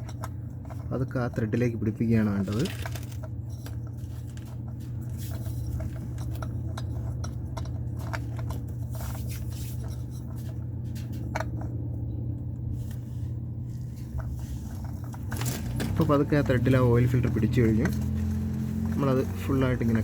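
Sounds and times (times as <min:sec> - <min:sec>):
oil filter clicking and scraping: 0:00.0 - 0:20.0
steady low hum: 0:00.0 - 0:20.0.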